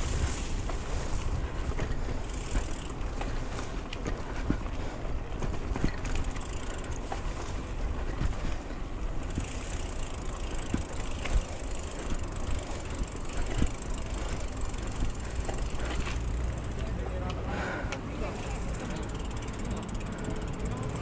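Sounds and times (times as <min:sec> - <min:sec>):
bike rattling over bumps: 0:00.0 - 0:21.0
tyres and wind rumble: 0:00.0 - 0:21.0.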